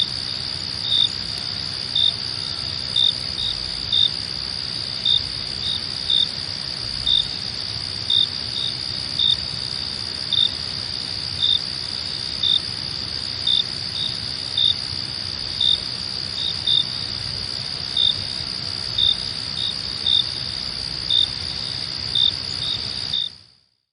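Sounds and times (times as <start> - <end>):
crickets chirping: 0.0 - 23.6.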